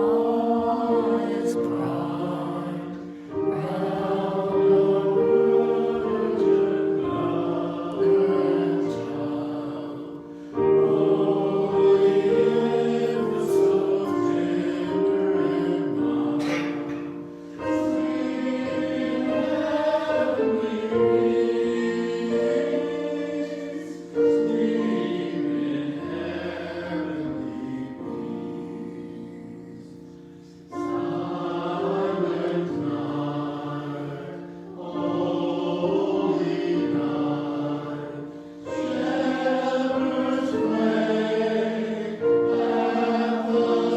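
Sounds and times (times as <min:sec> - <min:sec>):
choir singing a hymn: 0:00.0 - 0:43.9.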